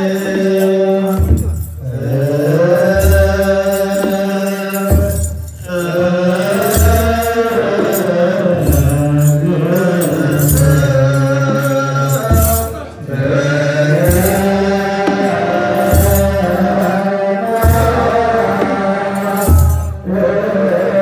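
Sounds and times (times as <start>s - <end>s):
men chanting in unison: 0.0s - 21.0s
sistrums rattling: 0.0s - 21.0s
deep drum beats: 1.2s - 17.0s, 17.6s - 20.2s.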